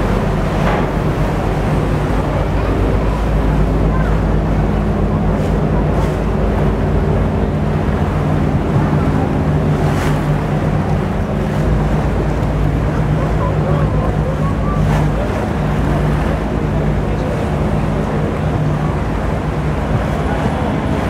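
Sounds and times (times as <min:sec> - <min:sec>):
boat engine running: 0:00.0 - 0:21.0
water rushing past hull: 0:00.0 - 0:21.0.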